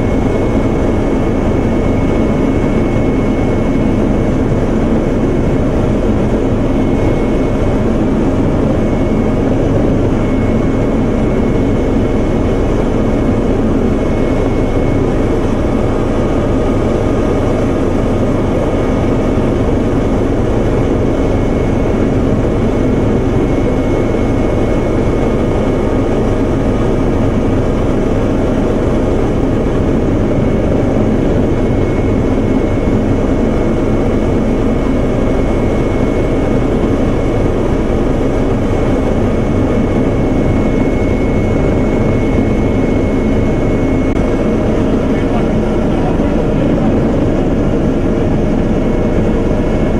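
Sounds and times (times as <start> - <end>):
faint high whine: 0.0 - 49.9
helicopter engine and rotor drone: 0.0 - 49.9.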